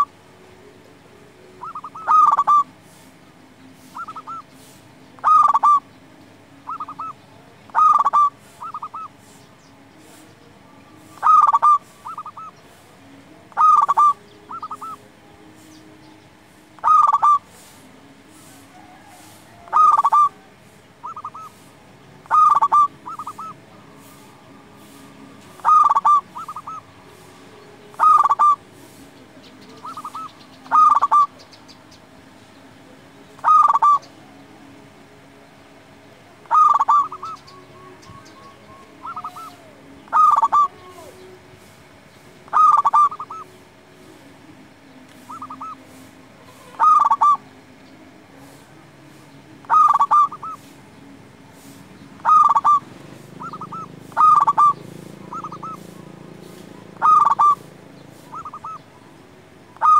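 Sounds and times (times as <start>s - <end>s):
dove cooing: 1.4s - 3.2s, 3.8s - 15.8s, 16.5s - 31.5s, 33.4s - 34.2s, 36.4s - 41.7s, 42.4s - 43.6s, 45.2s - 47.6s, 48.4s - 50.8s, 51.6s - 59.0s.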